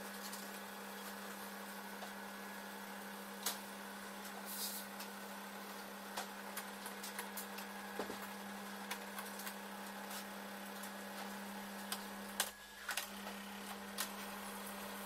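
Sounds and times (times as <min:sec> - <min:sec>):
film projector humming: 0:00.0 - 0:15.0.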